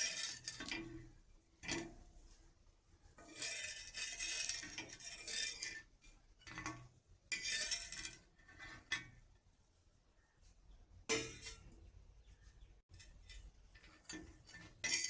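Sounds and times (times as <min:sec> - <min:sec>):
metal spatula scraping a pan: 0:00.0 - 0:09.4, 0:11.1 - 0:11.9, 0:12.9 - 0:15.0.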